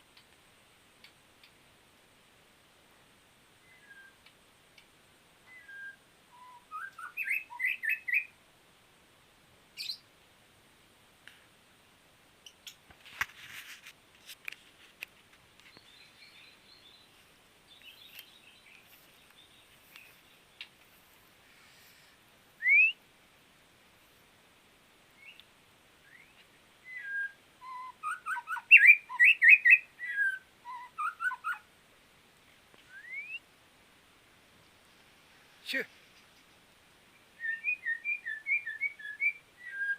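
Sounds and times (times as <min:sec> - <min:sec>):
rustle: 0:00.0 - 0:39.9
songbird chirping: 0:00.0 - 0:39.9.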